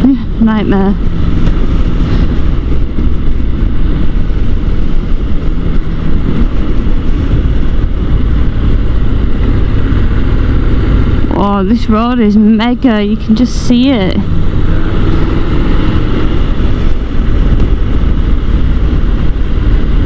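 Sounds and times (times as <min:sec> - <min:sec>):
motorcycle engine rumble: 0:00.0 - 0:20.0
wind buffeting microphone: 0:00.0 - 0:20.0.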